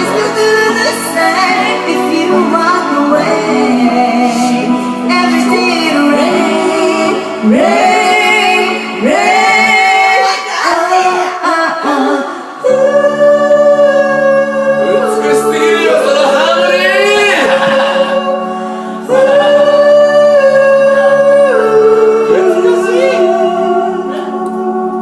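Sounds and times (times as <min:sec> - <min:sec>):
wordless sung melody: 0:00.0 - 0:25.0.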